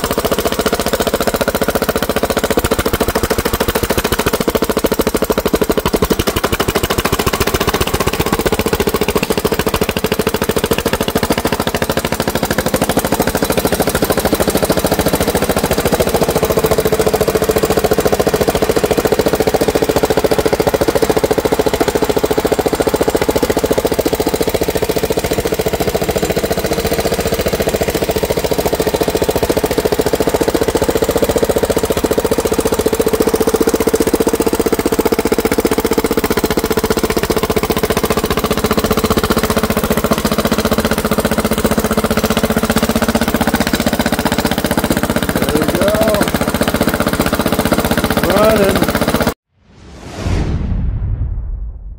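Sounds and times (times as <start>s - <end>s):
lawn mower engine running: 0.0s - 49.4s.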